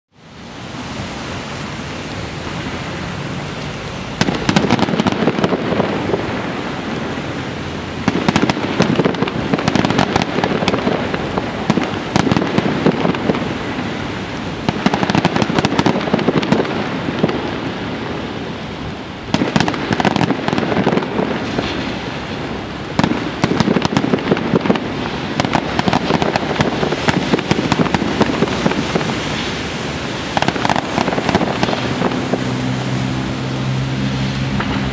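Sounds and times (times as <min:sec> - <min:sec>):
fireworks bangs and crackling: 0:04.0 - 0:33.1.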